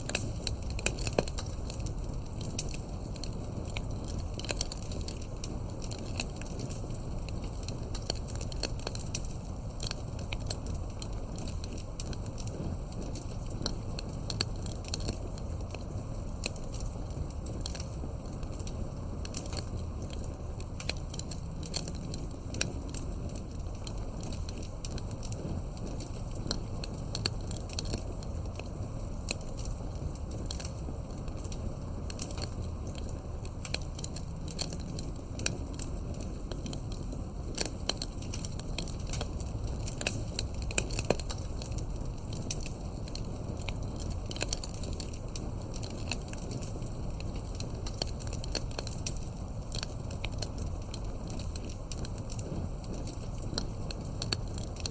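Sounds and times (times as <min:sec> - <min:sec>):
burning wood rumble: 0:00.0 - 0:54.9
campfire crackling: 0:00.0 - 0:54.9
fire pops and snaps: 0:00.0 - 0:54.9.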